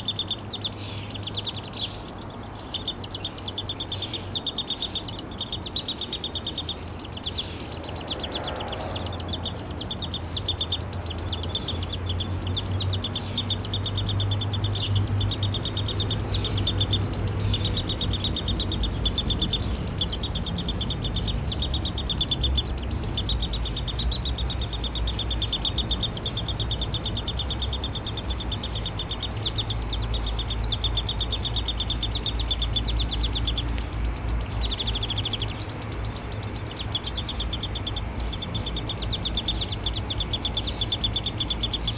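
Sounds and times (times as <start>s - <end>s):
woodpecker nestling begging chatter: 0.0s - 41.9s.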